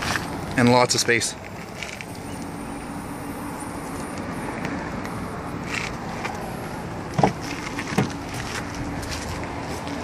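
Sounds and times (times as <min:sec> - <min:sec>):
vehicle noise: 0:00.0 - 0:10.0.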